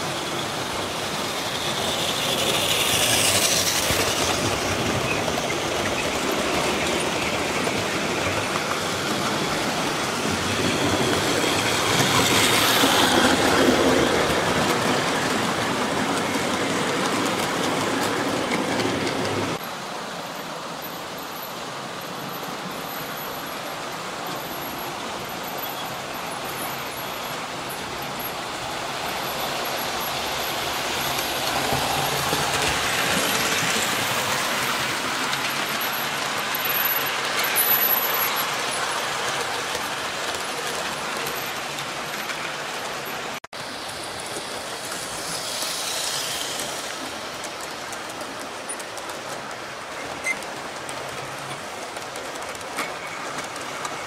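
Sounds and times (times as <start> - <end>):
model trains running on track: 0.0 - 54.0.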